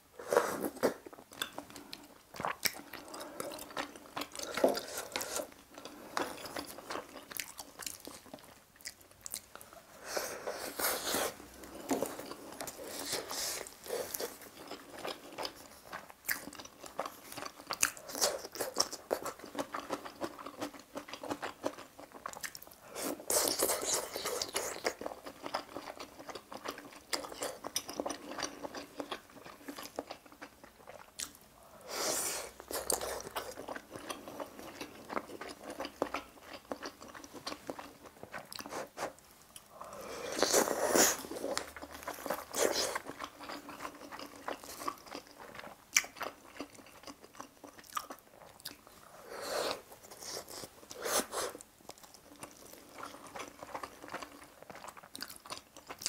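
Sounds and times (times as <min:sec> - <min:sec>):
chewing and wet mouth sounds: 0:00.6 - 0:56.0.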